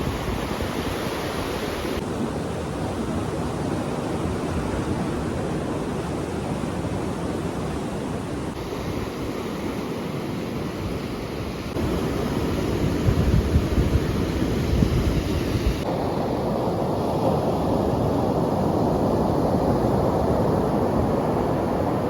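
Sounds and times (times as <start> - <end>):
sea waves washing onto beach: 0.0 - 22.0
wind on microphone: 0.0 - 22.0.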